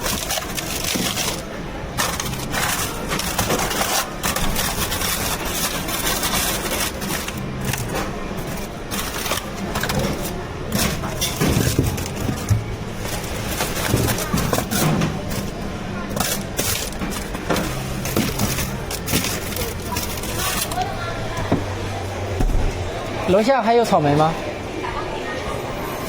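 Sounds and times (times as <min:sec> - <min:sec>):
cups and utensils clattering: 0:00.0 - 0:21.8
voices in background: 0:00.6 - 0:26.0.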